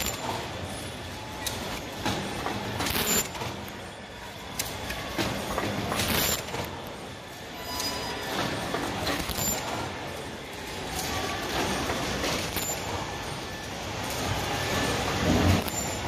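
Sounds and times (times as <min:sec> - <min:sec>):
machine mechanical clatter: 0:00.0 - 0:16.0.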